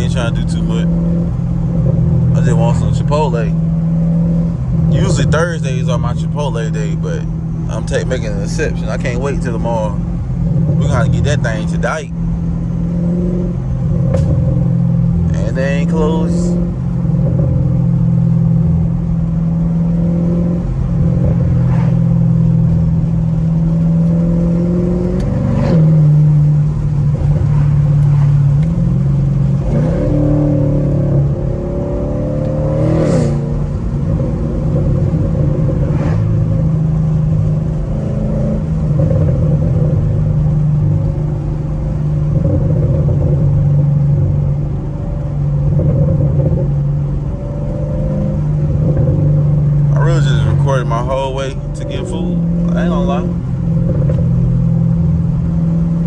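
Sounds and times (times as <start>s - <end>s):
car exhaust droning: 0.0s - 56.0s.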